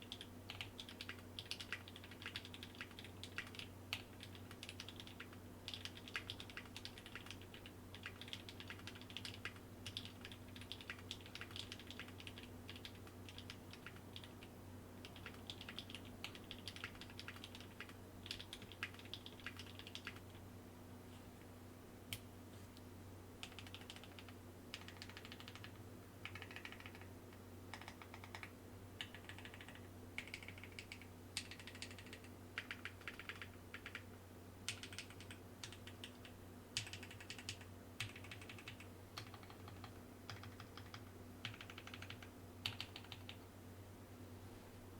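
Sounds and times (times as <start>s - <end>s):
mechanical keyboard typing: 0.0s - 20.2s, 23.4s - 27.1s, 27.7s - 34.1s, 34.7s - 43.4s.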